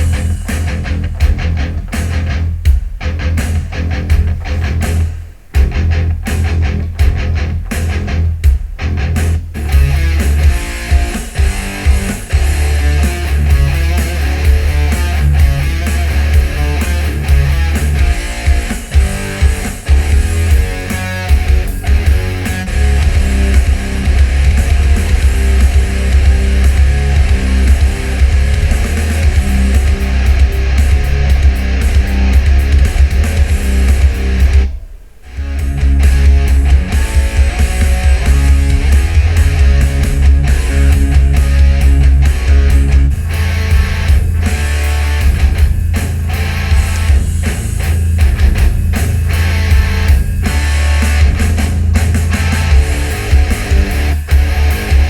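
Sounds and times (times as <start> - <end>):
booming bass: 0.0 - 55.0
death metal through a speaker: 0.0 - 55.0
heavy metal music: 0.0 - 55.0.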